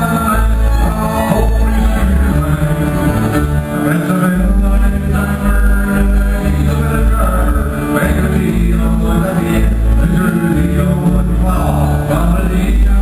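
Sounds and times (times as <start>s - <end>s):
guitar playing: 0.0s - 13.0s
person singing: 0.0s - 13.0s
walking bass line: 0.0s - 13.0s.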